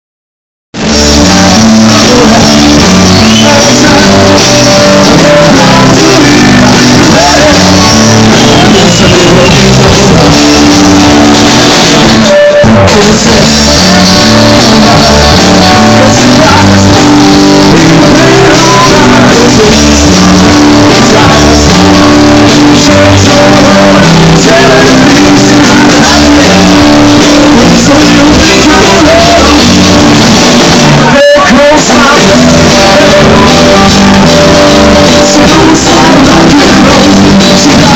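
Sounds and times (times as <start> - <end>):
electric guitar: 0.8 - 37.9
live rock band: 0.8 - 37.9
person singing: 0.8 - 37.9.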